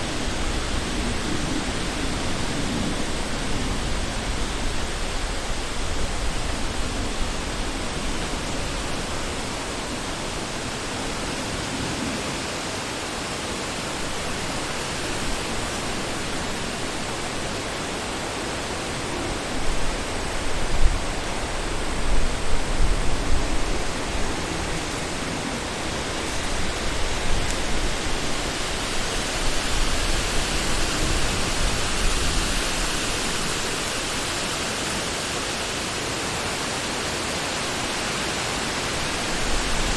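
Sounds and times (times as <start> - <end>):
wind blowing through forest: 0.0 - 39.9.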